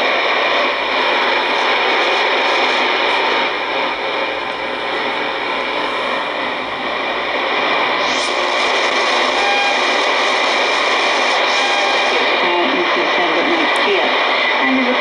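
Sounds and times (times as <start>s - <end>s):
radio static hiss: 0.0s - 15.0s
rising radio whistle: 0.7s - 14.2s.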